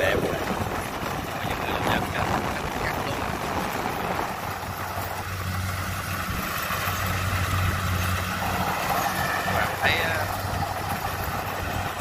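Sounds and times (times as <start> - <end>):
combine harvester engine humming: 0.0 - 12.0.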